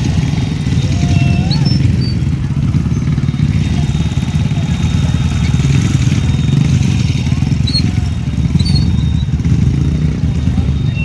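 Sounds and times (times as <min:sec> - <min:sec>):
vehicle engines rumbling in traffic: 0:00.0 - 0:11.0.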